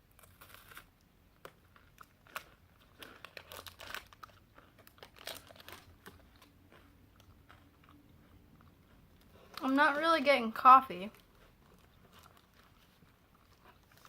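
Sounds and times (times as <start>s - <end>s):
candy wrapper crinkling: 0.0s - 8.0s, 8.9s - 14.0s
crunchy wafer bar chewing: 0.0s - 10.0s, 11.1s - 14.0s.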